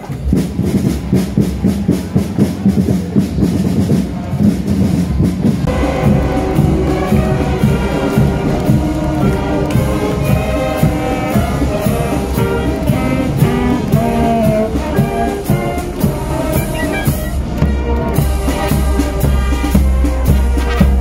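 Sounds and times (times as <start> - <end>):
marching drums: 0.0 - 21.0
brass melody: 3.5 - 21.0.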